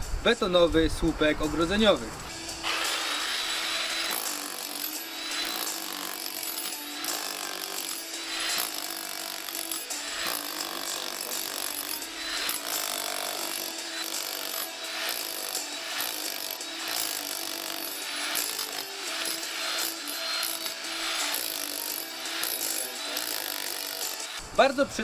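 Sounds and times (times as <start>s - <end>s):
demolition hammer chiselling concrete: 2.6s - 24.4s.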